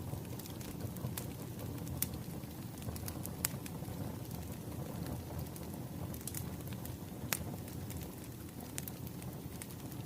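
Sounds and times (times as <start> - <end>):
wood fire crackling: 0.0 - 10.0
sharp pops of burning logs: 0.1 - 10.0.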